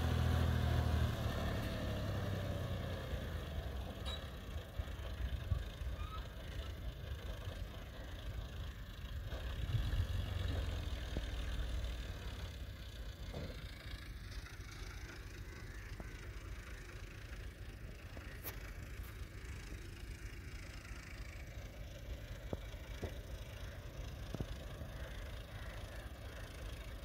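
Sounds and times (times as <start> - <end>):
distant engines rumbling: 0.0 - 27.0.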